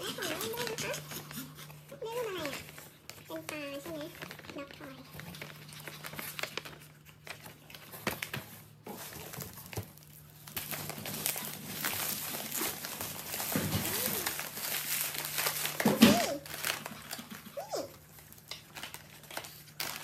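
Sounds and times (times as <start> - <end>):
plastic packaging crinkling: 2.0 - 20.0.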